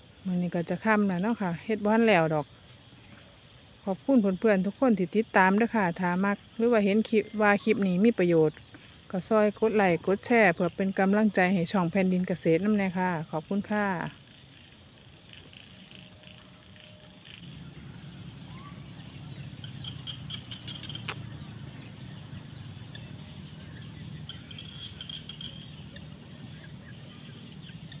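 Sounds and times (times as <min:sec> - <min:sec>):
crickets droning: 0:00.0 - 0:28.0
rapid insect chirping: 0:00.0 - 0:28.0.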